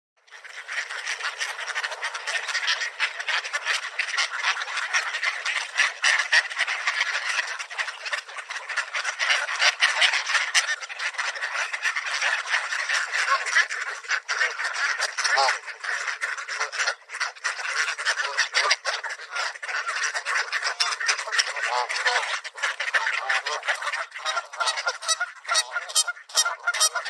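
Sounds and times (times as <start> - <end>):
ducks quacking: 0.2 - 27.0.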